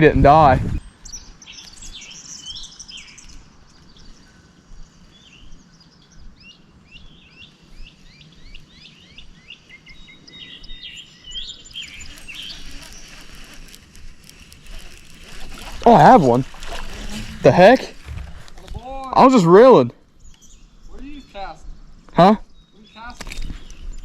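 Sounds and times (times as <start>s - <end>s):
birds chirping: 0.0s - 24.0s
faint outdoor background: 0.0s - 24.0s.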